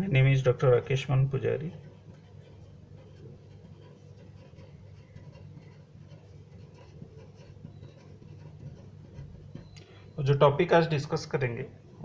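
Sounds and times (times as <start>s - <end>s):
low steady hum: 0.0s - 12.0s
pen scratching on paper: 0.4s - 10.5s.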